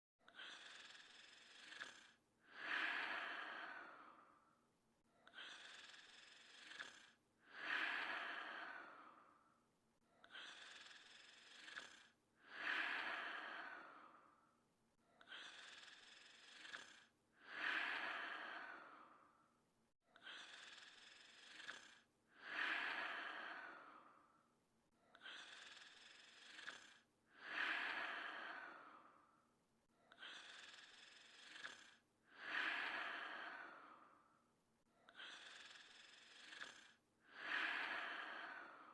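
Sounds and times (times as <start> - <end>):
person breathing heavily and snoring: 0.2 - 38.9.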